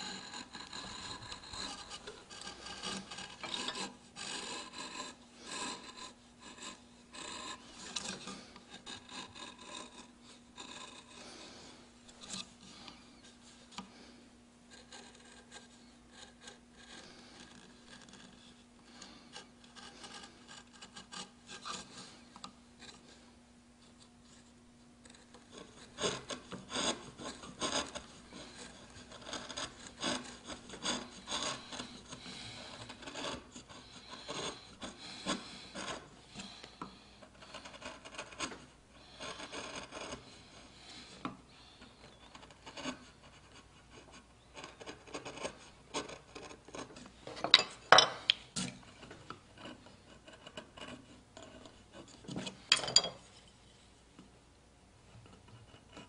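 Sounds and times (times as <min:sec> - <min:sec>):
carving gouge scraping wood: 0:00.0 - 0:23.3, 0:23.9 - 0:53.3, 0:55.1 - 0:56.0.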